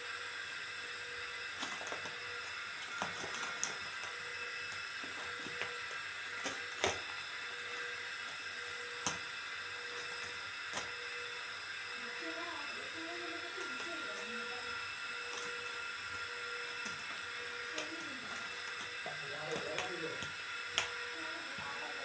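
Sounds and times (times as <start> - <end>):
faint hum tones: 0.0 - 22.0.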